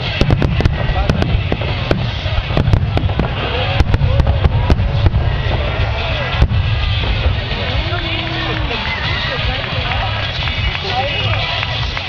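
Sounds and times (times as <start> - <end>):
fireworks bangs and crackles: 0.0 - 12.0
low rumble of fireworks: 0.0 - 12.0.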